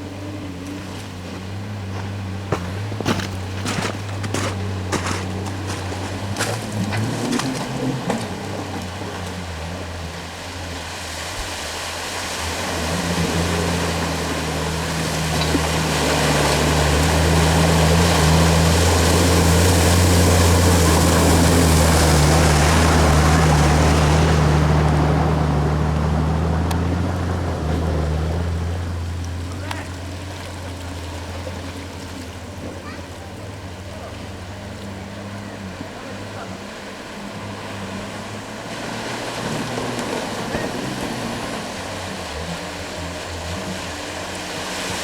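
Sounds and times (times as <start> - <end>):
off-road vehicle engine running: 0.0 - 45.0
water rushing and splashing: 0.0 - 45.0.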